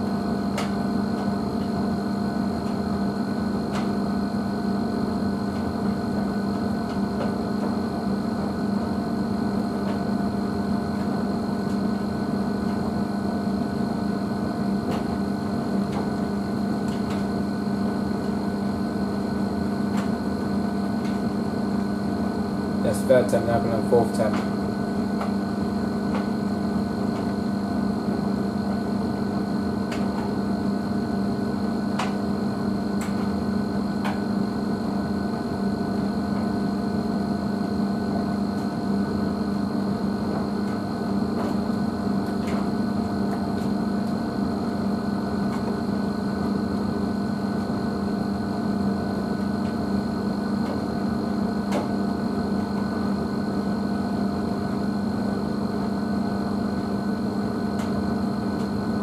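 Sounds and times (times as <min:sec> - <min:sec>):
washing machine motor running: 0:00.0 - 0:59.0.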